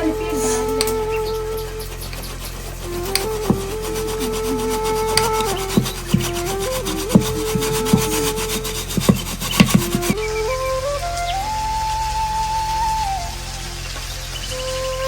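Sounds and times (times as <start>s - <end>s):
flute playing slow melody: 0.0s - 15.0s.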